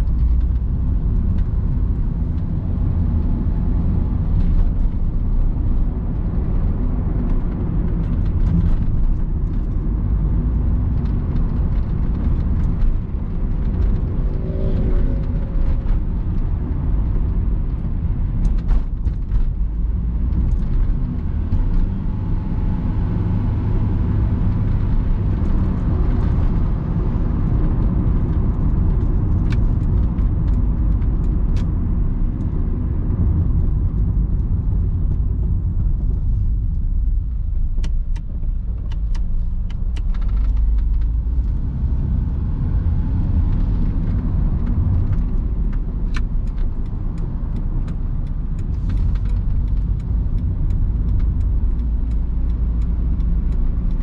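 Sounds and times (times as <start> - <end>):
car engine drone: 0.0 - 54.0
road and tyre rumble: 0.0 - 54.0.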